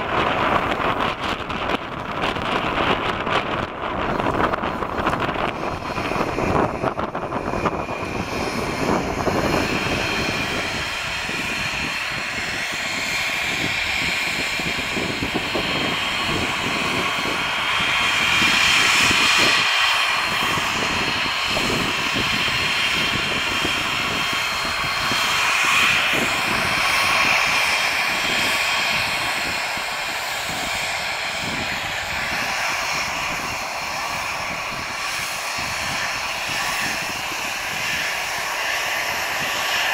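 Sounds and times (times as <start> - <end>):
jet climbing after takeoff: 0.0 - 39.9
jet taxiing whine: 0.0 - 39.9.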